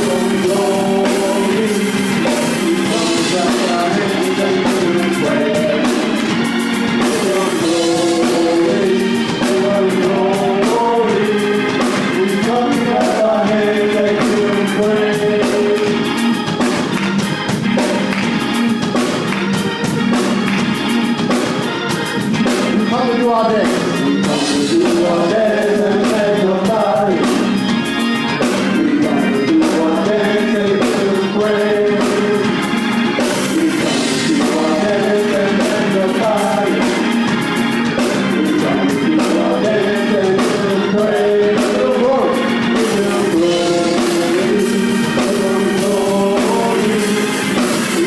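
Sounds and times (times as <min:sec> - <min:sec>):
instrumental accompaniment: 0:00.0 - 0:48.0
voices singing: 0:00.0 - 0:48.0.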